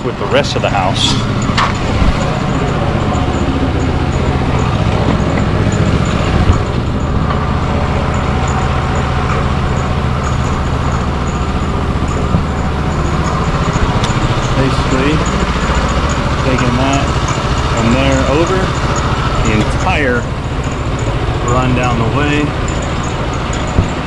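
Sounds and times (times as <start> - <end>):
motor droning hum: 0.0 - 24.0.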